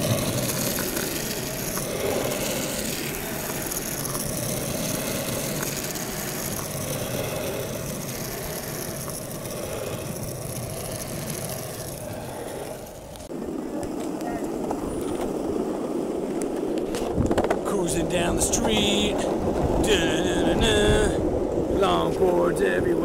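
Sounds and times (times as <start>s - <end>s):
longboard wheels rolling on asphalt: 0.0s - 23.0s.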